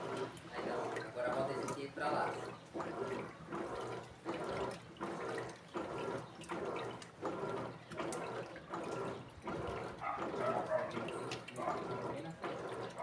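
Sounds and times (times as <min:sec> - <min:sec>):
washing machine water sloshing: 0:00.0 - 0:13.0.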